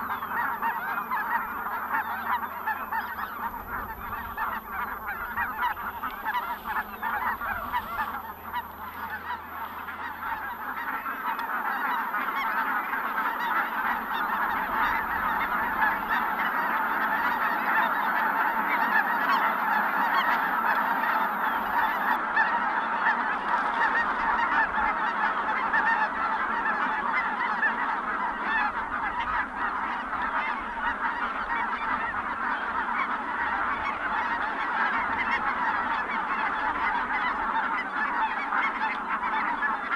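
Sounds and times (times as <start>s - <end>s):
geese honking and cackling: 0.0s - 39.9s.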